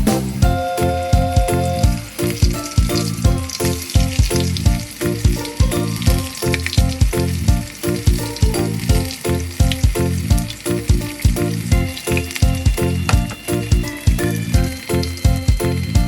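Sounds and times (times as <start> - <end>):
background music with a beat: 0.0 - 16.0.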